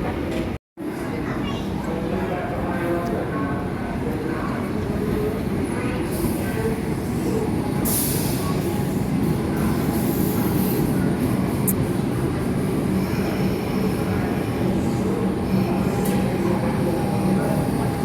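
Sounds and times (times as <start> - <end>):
electric train on rails: 1.9 - 18.0.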